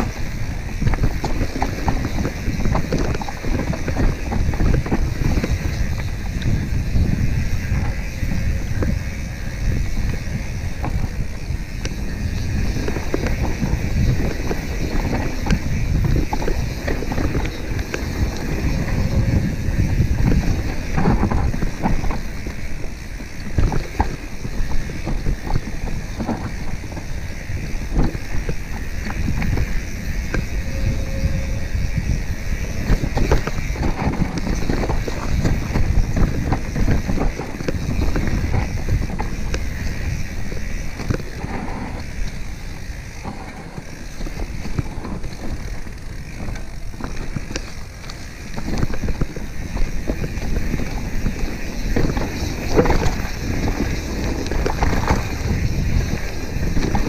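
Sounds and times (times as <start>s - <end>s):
bike rattling over bumps: 0.0s - 57.0s
bike tyres rumbling over dirt: 0.0s - 57.0s
wind buffeting microphone: 0.0s - 57.0s.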